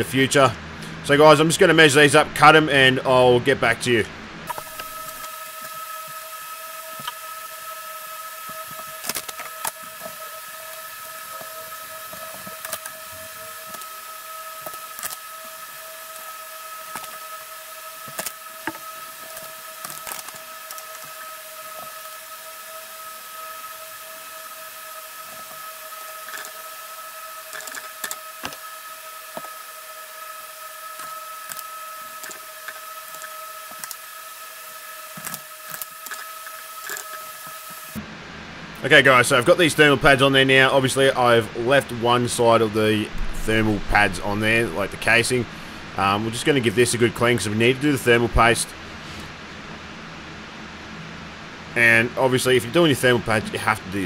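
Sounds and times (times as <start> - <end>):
steady high whine: 0.0 - 54.0.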